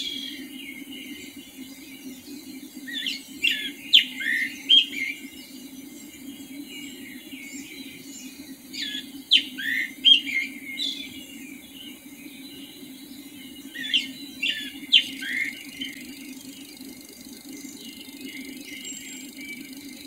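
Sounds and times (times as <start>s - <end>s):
songbird chirping: 0.0s - 20.0s
steady low hum: 0.0s - 20.0s.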